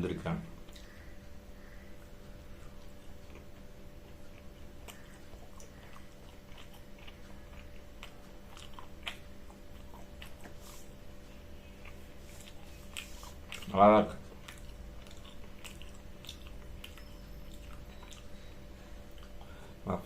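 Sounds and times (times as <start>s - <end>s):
steady background hum: 0.0s - 20.0s
person chewing food: 0.6s - 19.8s.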